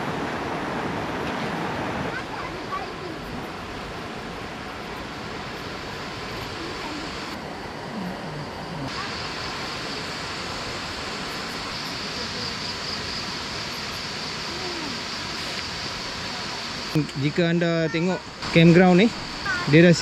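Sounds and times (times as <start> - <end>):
river water flowing: 0.0 - 20.0
high insect drone: 1.7 - 20.0.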